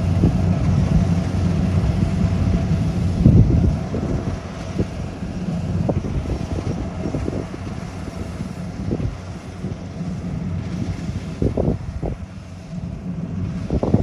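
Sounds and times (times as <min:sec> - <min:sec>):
combine harvester engine droning: 0:00.0 - 0:14.0
wind buffeting microphone: 0:00.0 - 0:14.0.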